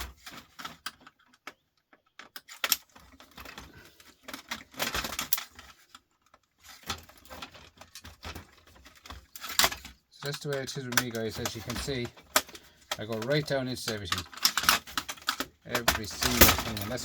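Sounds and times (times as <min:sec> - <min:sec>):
parts clattering: 0:00.0 - 0:17.0
small parts clicking and rattling: 0:00.0 - 0:17.0.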